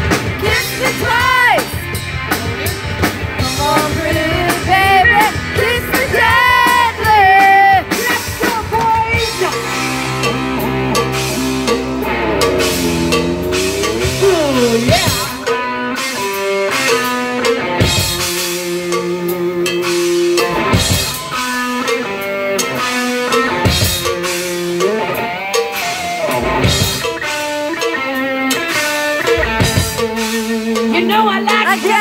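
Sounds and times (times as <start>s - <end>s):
distorted electric guitars: 0.0s - 32.0s
drum kit: 0.0s - 32.0s
lead guitar bending notes: 0.0s - 32.0s.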